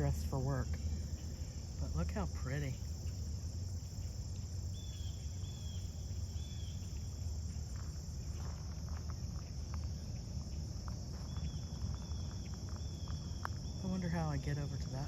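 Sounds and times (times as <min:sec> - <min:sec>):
insect chorus: 0:00.0 - 0:15.0
low steady rumble: 0:00.0 - 0:15.0.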